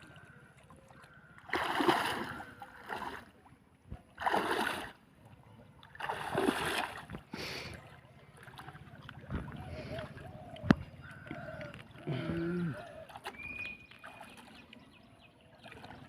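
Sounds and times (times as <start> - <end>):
water splashing: 0.0 - 16.0.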